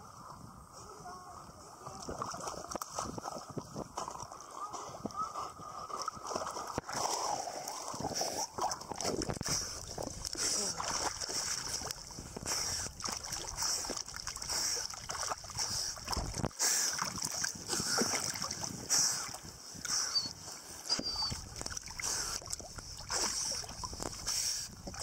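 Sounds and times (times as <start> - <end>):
sea water splashing: 1.6 - 25.0.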